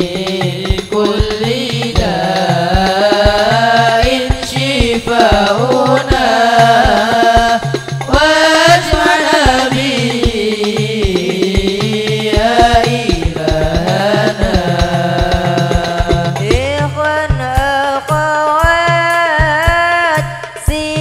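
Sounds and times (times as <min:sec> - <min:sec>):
hand drums beating: 0:00.0 - 0:21.0
young men singing together: 0:00.0 - 0:21.0.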